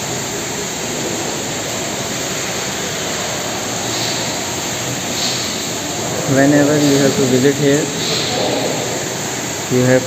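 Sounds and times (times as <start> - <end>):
air conditioning rushing: 0.0 - 10.0.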